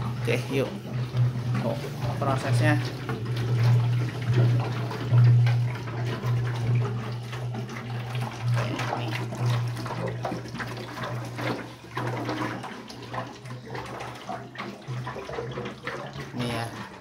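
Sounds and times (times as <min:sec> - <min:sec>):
water glugging from jug: 0:00.0 - 0:17.0.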